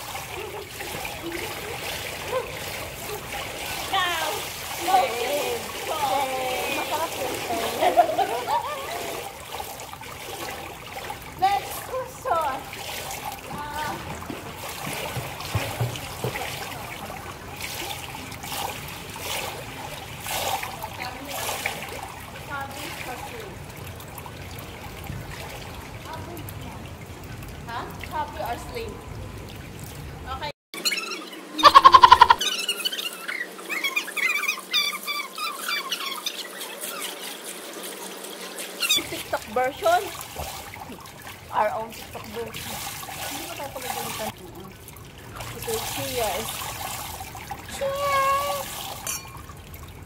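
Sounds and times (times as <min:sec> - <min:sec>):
pool water lapping: 0:00.0 - 0:50.0
swimmer splashing: 0:00.0 - 0:50.0.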